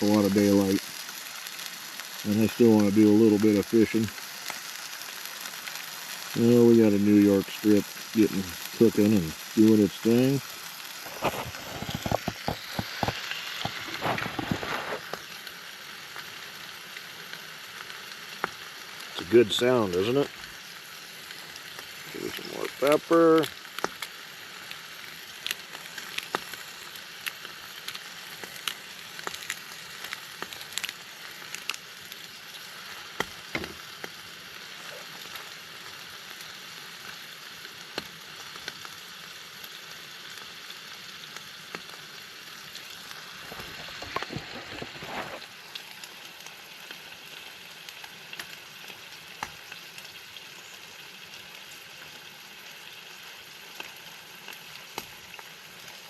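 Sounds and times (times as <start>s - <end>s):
steak sizzling in a pan: 0.0s - 56.0s.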